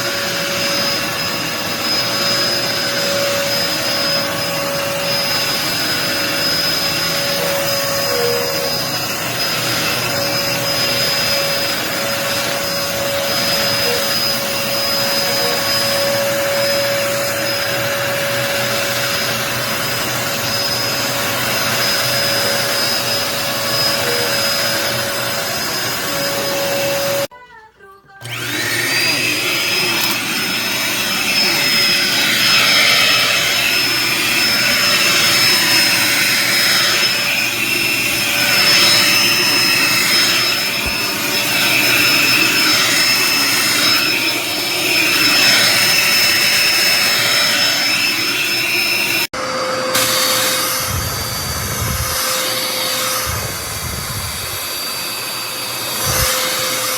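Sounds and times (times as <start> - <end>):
vacuum cleaner running: 0.0 - 27.3, 28.1 - 56.9.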